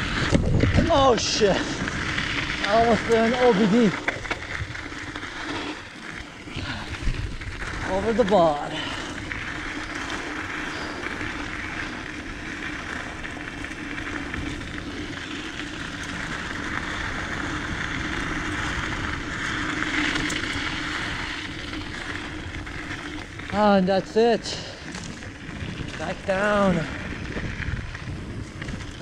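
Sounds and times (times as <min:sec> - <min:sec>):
bike tyre noise on dirt: 0:00.0 - 0:29.0
constant low hum: 0:00.0 - 0:29.0
wind rushing over microphone: 0:00.0 - 0:29.0.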